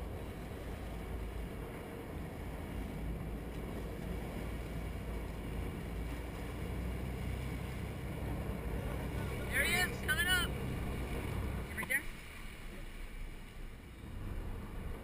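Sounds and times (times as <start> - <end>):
boat engine: 0.0 - 15.0
water churning: 0.0 - 15.0.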